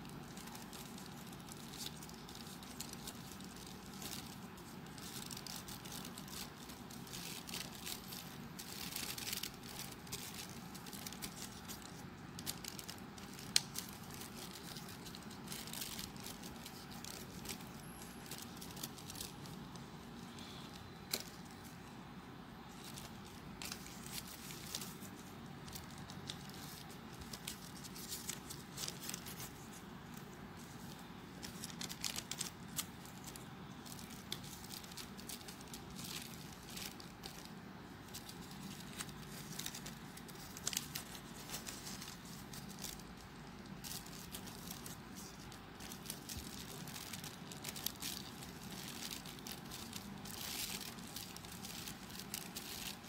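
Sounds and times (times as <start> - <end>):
paper rustling and clicking: 0.0 - 21.8, 22.7 - 53.0
low steady hum: 0.0 - 53.0.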